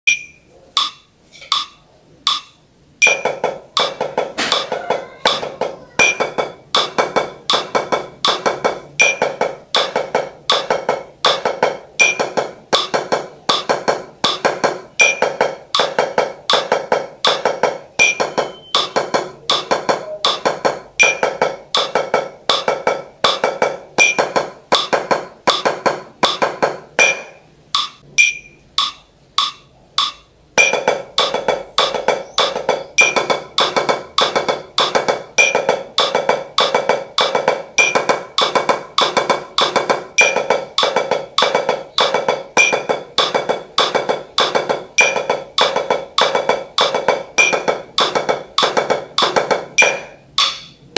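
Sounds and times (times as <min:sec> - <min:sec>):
metronome clicks: 0:00.1 - 0:14.4, 0:15.0 - 0:26.4, 0:27.0 - 0:50.9
sticks playing drum: 0:00.1 - 0:50.9.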